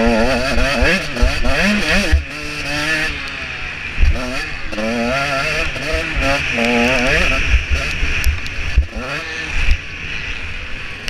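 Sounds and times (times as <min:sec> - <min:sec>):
two-stroke motorcycle engine revving: 0:00.0 - 0:11.0.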